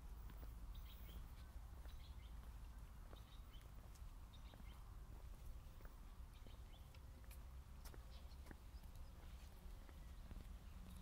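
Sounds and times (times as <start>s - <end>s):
footsteps on brick paving: 0.0s - 11.0s
small birds chirping: 0.0s - 11.0s.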